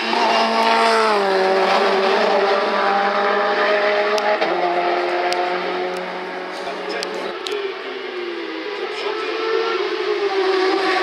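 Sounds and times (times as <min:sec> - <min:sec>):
race car engine passing by: 0:00.0 - 0:11.0.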